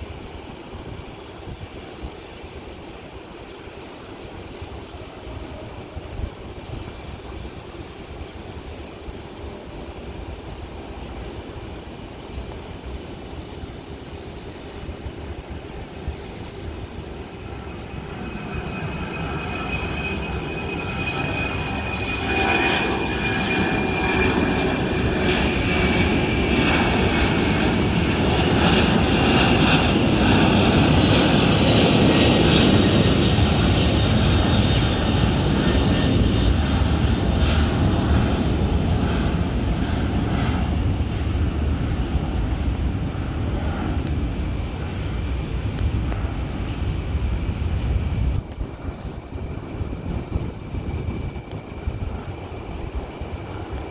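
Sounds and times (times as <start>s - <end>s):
high jet engine whine: 0.0s - 53.9s
jet engines rumbling: 0.0s - 53.9s.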